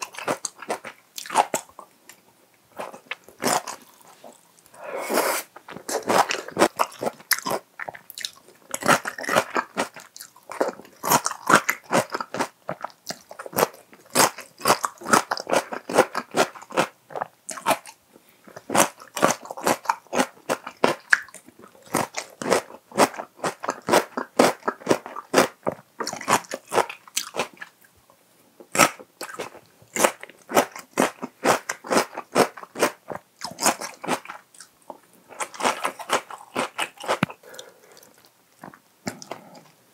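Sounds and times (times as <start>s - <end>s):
crunching and chewing: 0.0s - 4.8s, 5.6s - 28.0s, 28.6s - 39.8s.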